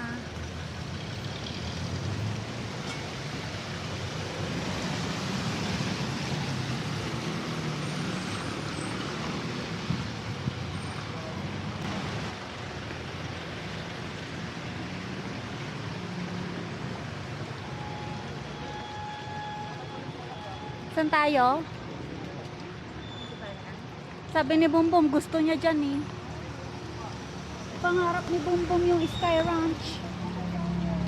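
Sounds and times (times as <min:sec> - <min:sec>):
traffic passing: 0:00.0 - 0:31.0.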